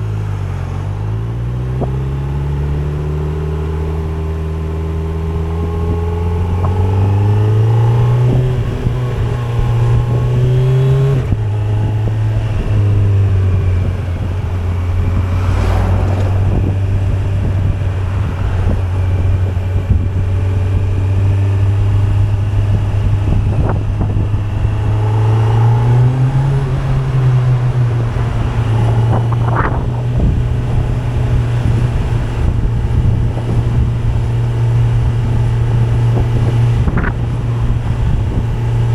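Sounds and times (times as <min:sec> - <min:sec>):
motorcycle engine revving: 0:01.3 - 0:38.9.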